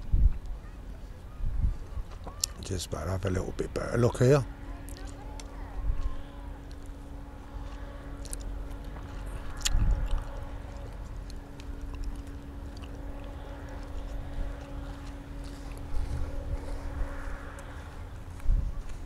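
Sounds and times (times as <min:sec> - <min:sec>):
wind rumble on microphone: 0:00.0 - 0:02.4, 0:03.4 - 0:19.0
steady low hum: 0:00.0 - 0:19.0.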